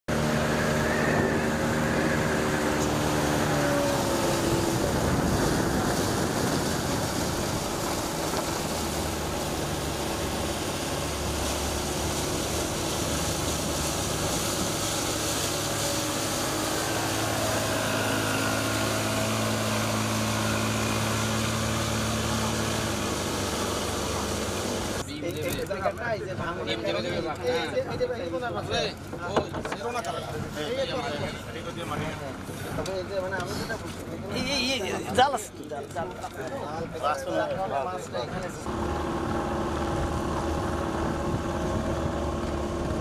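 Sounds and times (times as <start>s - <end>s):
outboard motors running: 0.1s - 34.3s, 36.1s - 43.0s
rush of wind and water: 0.1s - 35.5s, 36.6s - 43.0s.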